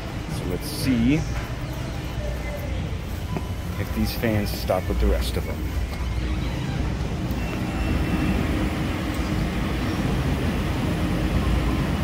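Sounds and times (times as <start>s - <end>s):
freezer fans whirring: 0.0s - 12.0s.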